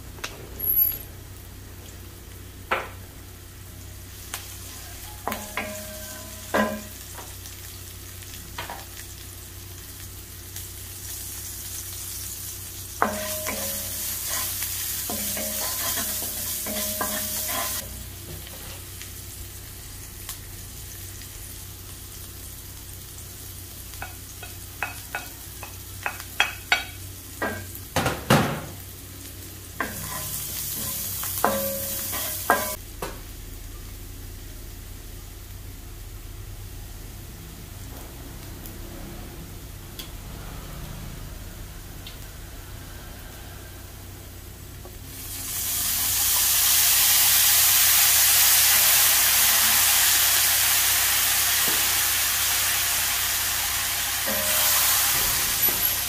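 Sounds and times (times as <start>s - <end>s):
onions sizzling in oil: 0.6s - 38.9s, 39.5s - 56.0s.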